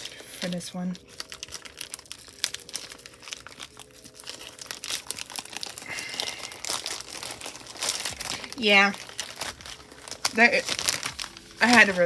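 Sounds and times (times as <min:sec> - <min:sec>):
packaging tearing: 0:00.0 - 0:12.0
plastic packaging crinkling: 0:00.0 - 0:12.0.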